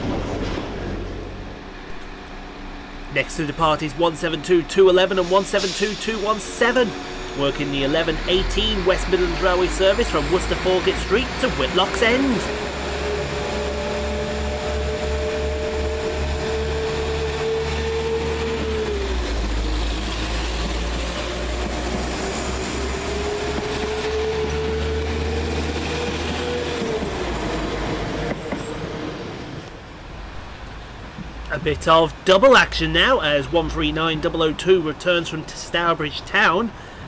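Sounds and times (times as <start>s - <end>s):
diesel train rumble: 0.0s - 37.0s
train engine whine: 0.0s - 37.0s.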